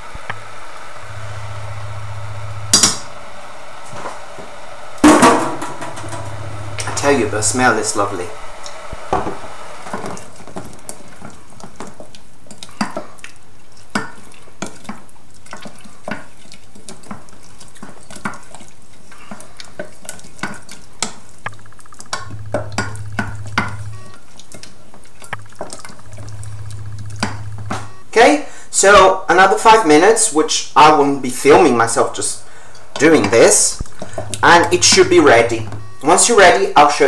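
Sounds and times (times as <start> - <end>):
fruit simmering hiss: 0.0 - 28.8, 31.1 - 37.0.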